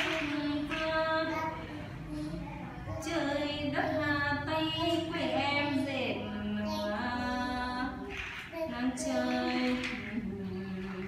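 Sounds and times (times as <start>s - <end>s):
woman singing unaccompanied: 0.0s - 1.6s, 3.0s - 11.0s.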